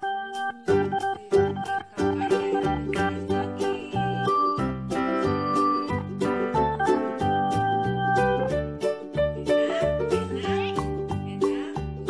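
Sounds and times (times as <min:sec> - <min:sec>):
cheerful music with plucked strings: 0:00.0 - 0:12.0.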